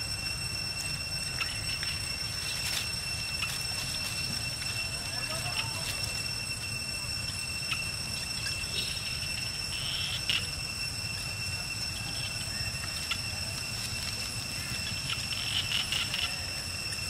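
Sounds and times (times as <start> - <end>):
high-pitched insect drone: 0.0 - 17.0
rustling dry leaves: 0.0 - 17.0.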